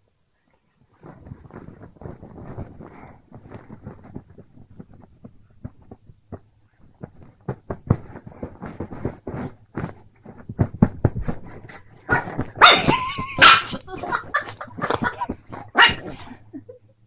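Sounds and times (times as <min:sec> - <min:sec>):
duvet rustling: 0:00.3 - 0:16.4
fabric rubbing: 0:00.4 - 0:16.2
soft thumps: 0:01.0 - 0:16.2.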